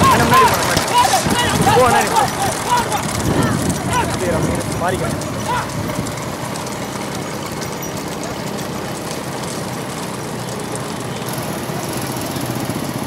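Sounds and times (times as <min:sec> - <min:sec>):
motorcycles running at speed: 0:00.0 - 0:13.0.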